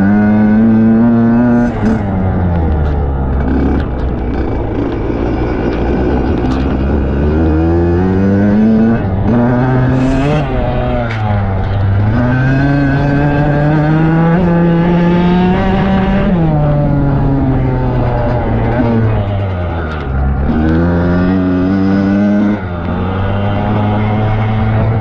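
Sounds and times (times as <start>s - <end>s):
dirt bike engine accelerating: 0.0s - 25.0s.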